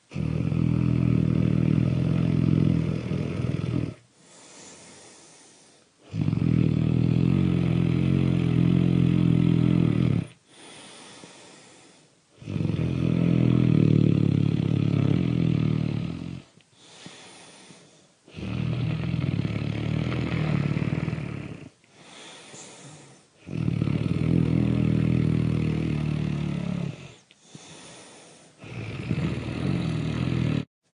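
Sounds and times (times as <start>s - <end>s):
loud snoring: 0.0s - 4.0s, 6.0s - 11.4s, 12.4s - 17.7s, 18.3s - 30.7s
quiet breathing: 0.0s - 30.5s.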